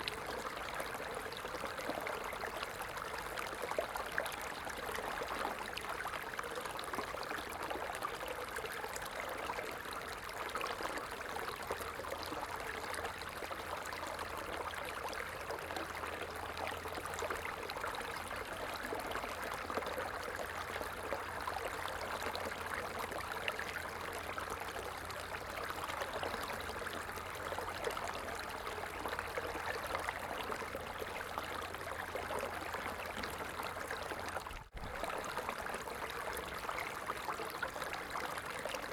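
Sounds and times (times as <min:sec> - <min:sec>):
stream water over rocks: 0:00.0 - 0:38.9.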